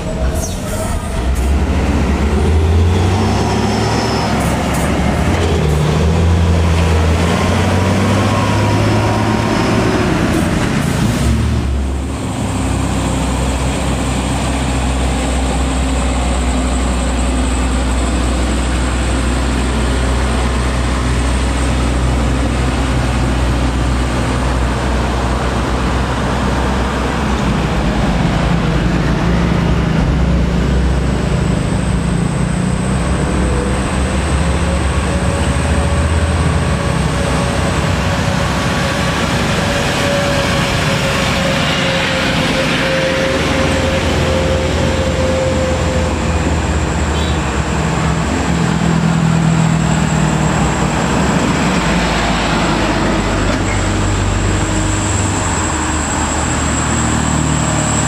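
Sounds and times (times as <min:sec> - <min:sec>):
diesel truck engines labouring: 0:00.0 - 0:58.0.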